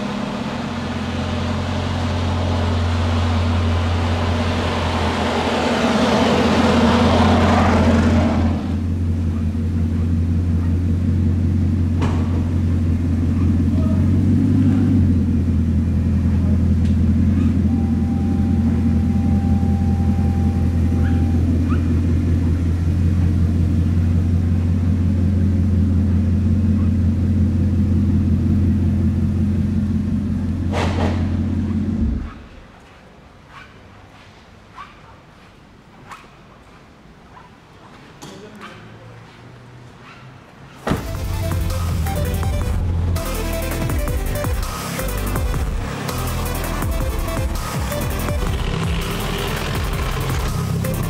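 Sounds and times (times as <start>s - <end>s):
car engine idling: 0.0s - 32.4s, 40.9s - 51.0s.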